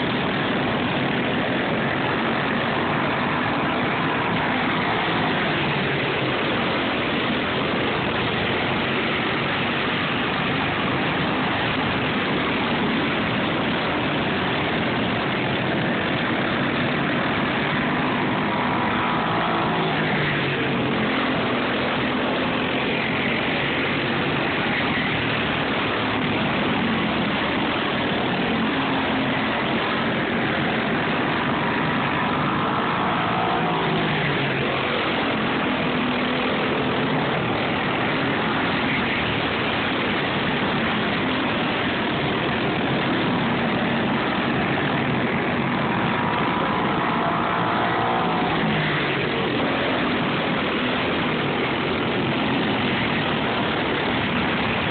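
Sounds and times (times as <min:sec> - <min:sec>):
constant noisy rush: 0:00.0 - 0:54.9
go-kart engines buzzing: 0:00.0 - 0:54.9.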